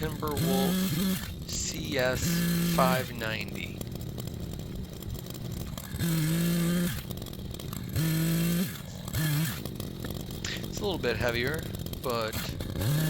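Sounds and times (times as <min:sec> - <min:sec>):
chainsaw idling and revving: 0:00.0 - 0:13.0.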